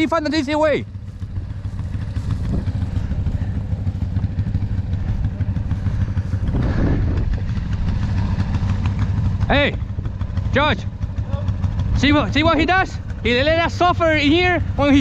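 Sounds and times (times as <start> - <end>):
atv engine idling: 0.0 - 15.0.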